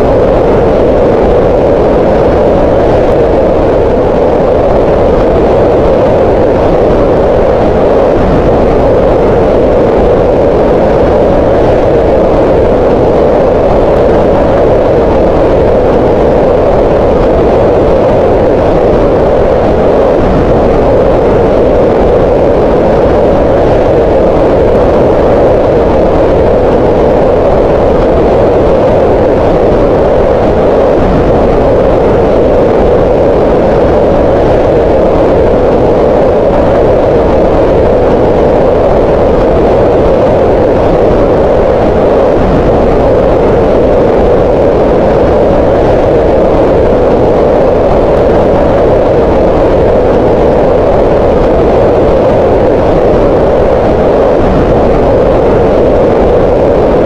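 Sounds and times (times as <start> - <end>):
steady rushing green noise: 0.0 - 57.0.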